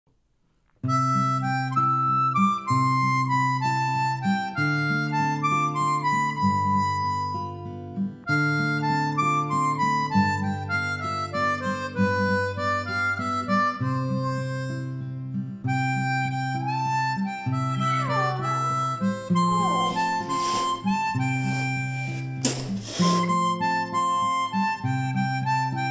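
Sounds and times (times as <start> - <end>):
harmonica melody: 0.8 - 25.9.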